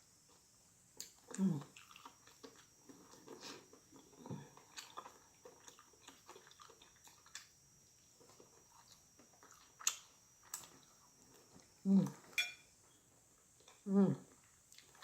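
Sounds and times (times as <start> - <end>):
person chewing: 1.0 - 12.4, 13.6 - 15.0.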